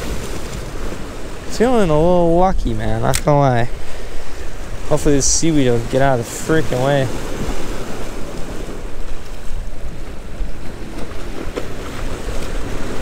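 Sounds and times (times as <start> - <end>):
small waves washing against rocks: 0.0 - 13.0
wind rumbling on microphone: 0.0 - 13.0.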